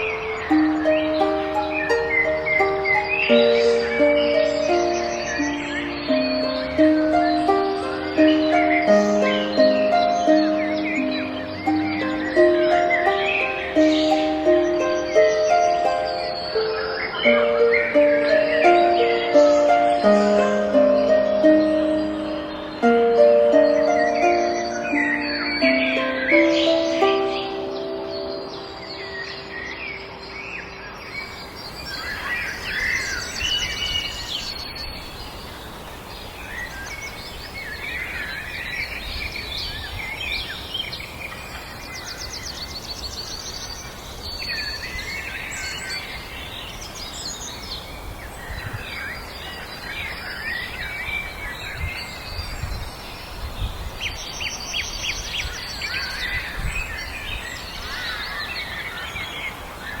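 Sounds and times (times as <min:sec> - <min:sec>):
low background noise: 0:00.0 - 1:00.0
songbirds singing: 0:00.0 - 1:00.0.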